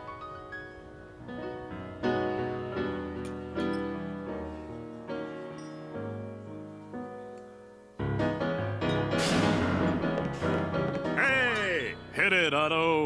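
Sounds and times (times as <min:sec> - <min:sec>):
soft lounge piano music: 0:00.0 - 0:12.2.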